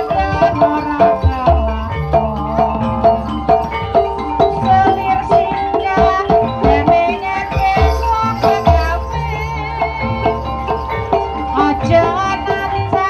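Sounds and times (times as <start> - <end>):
tuned mallet percussion melody: 0.0 - 13.0.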